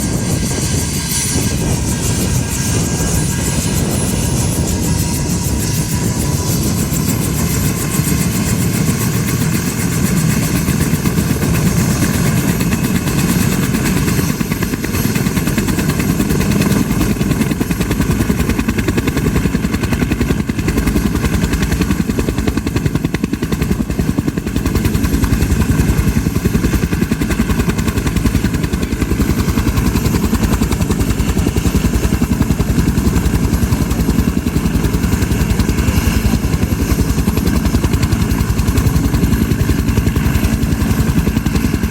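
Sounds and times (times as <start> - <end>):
helicopter engine hiss: 0.0 - 41.9
helicopter rotor chopping: 0.0 - 41.9.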